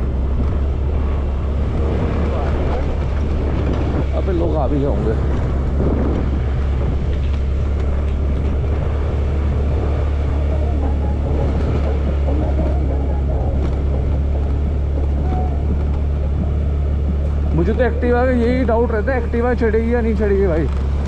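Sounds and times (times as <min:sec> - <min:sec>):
scooter engine running: 0:00.0 - 0:21.0.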